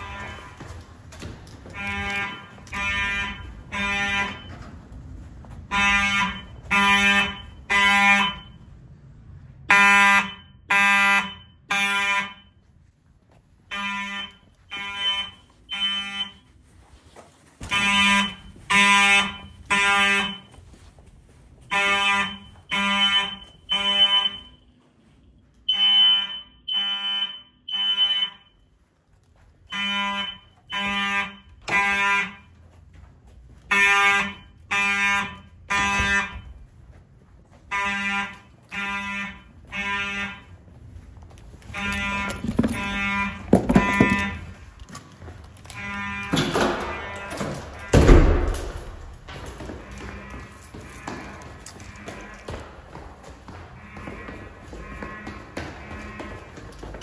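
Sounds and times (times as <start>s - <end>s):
fire alarm horns blaring: 0.0s - 57.0s.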